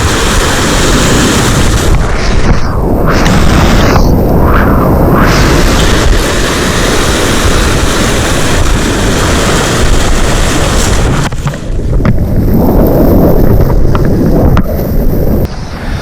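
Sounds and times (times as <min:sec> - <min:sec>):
sea surf rushing: 0:00.0 - 0:16.0
wind noise on microphone: 0:00.0 - 0:16.0.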